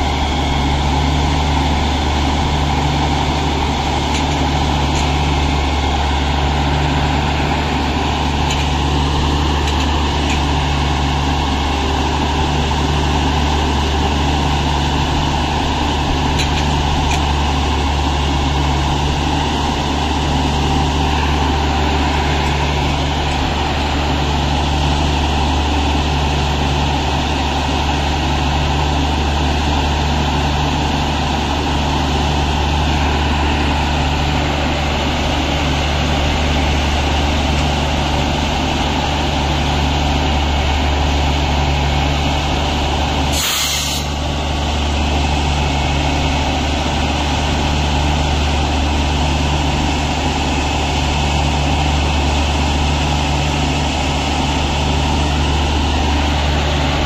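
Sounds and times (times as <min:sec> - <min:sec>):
diesel engine humming: 0:00.0 - 0:57.0.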